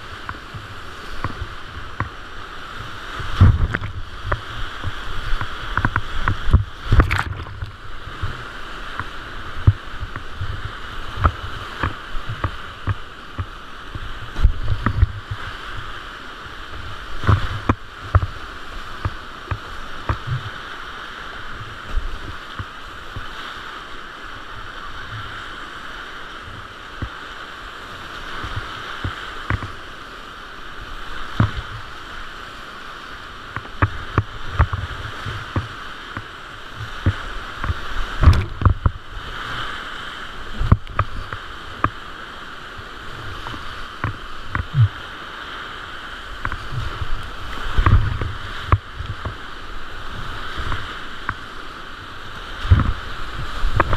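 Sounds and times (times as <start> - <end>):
waves slapping kayak: 0.0 - 53.9
whitewater rapids rushing: 0.0 - 53.9.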